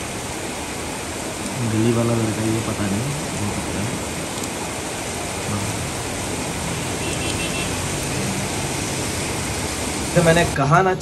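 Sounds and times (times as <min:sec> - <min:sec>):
heavy rain on a street: 0:00.0 - 0:11.0
auto-rickshaw engine humming: 0:01.6 - 0:10.6.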